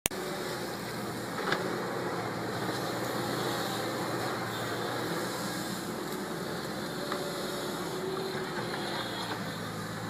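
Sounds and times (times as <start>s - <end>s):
excavator running: 0.1s - 10.0s.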